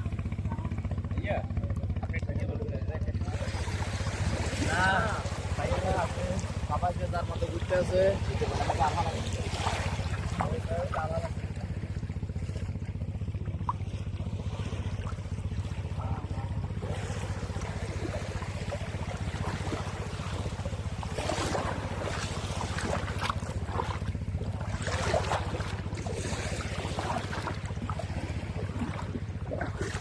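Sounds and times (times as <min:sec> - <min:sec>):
boat engine running: 0:00.0 - 0:30.0
water splashing: 0:03.1 - 0:30.0.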